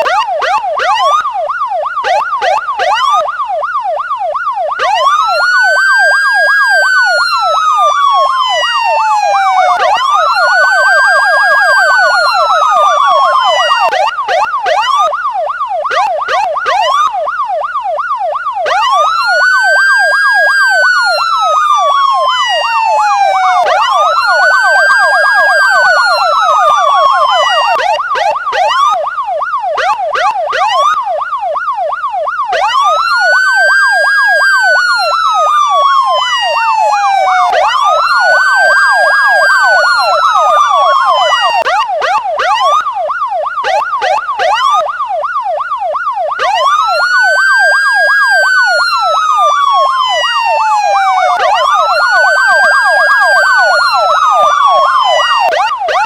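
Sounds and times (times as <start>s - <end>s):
police siren wail: 0.0s - 56.0s
police siren yelp: 0.0s - 56.0s.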